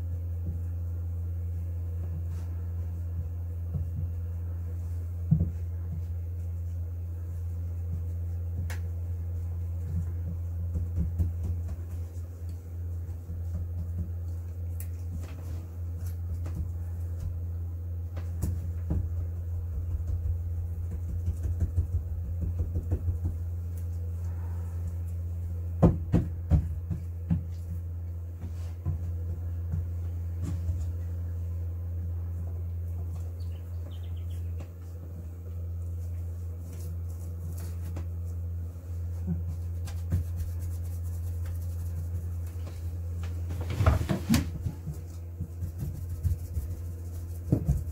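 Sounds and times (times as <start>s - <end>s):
steady low hum: 0.0s - 47.9s
brush taps and rustles: 3.6s - 24.2s, 24.8s - 31.3s, 32.4s - 47.9s.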